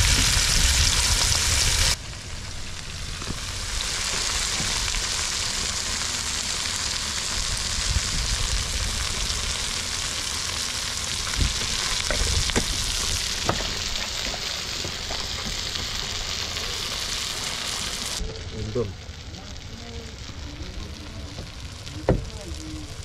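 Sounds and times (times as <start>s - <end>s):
fish sizzling in hot oil: 0.0s - 23.0s
low rumble: 0.0s - 23.0s
oil popping and crackling: 0.0s - 23.0s.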